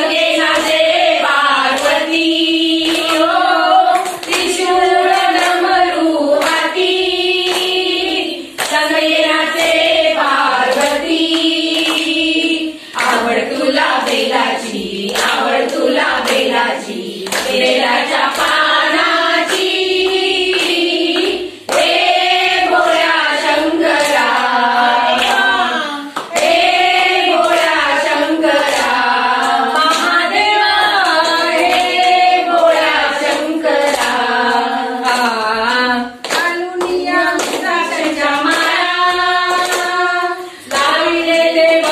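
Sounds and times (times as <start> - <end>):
hand-clapping steady beat: 0.0 - 41.9
women singing together: 0.0 - 41.9.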